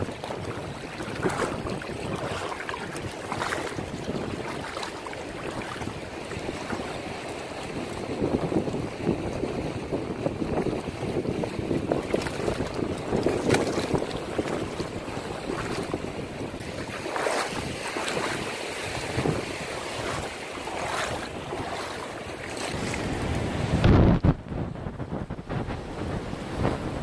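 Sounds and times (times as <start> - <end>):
water lapping around rocks: 0.0 - 24.1
wind on microphone: 0.0 - 27.0.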